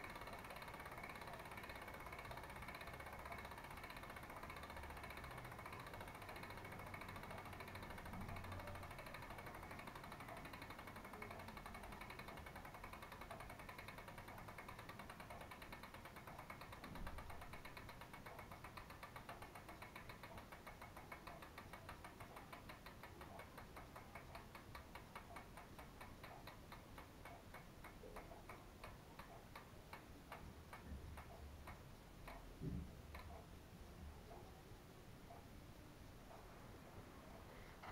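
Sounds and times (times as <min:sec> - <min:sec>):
bicycle freehub ticking: 0:00.0 - 0:33.5.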